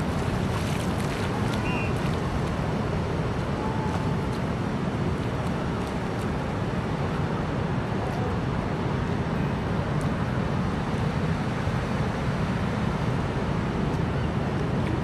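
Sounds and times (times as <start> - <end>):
water washing over sand: 0.0 - 15.0
wind: 0.0 - 15.0.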